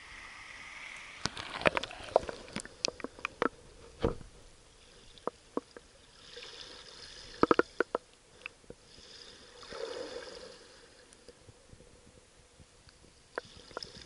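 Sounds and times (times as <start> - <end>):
muffled underwater water swishing: 0.0 - 14.0.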